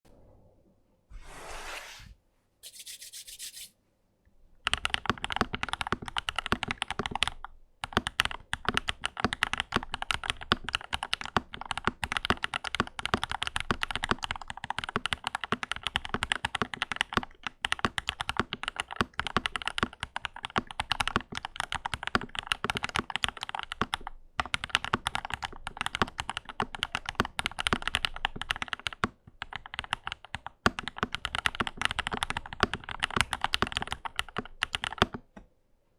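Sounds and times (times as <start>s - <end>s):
mechanical keyboard typing: 4.6s - 35.2s.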